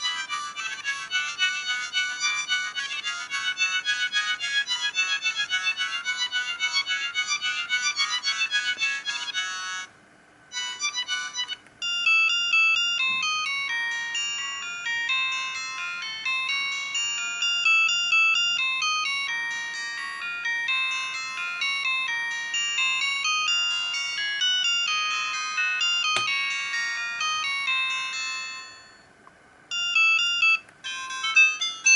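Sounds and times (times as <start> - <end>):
electronic phone ringtone melodies: 0.0 - 9.9, 10.5 - 31.9.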